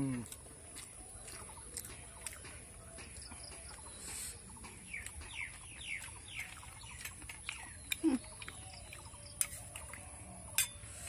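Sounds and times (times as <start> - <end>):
faint clicks and chewing: 0.0 - 10.6
bird chirps: 0.7 - 11.0.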